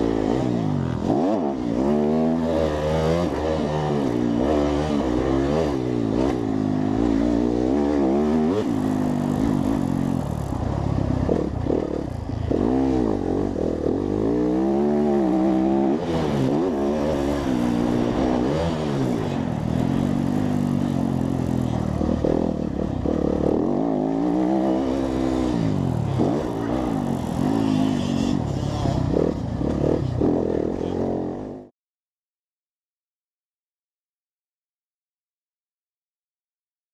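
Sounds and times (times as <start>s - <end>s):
motorcycle engine revving: 0.0s - 31.7s.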